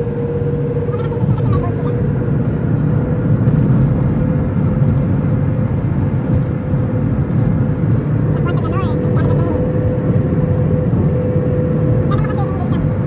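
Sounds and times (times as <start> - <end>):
road and engine rumble in car: 0.0 - 13.0.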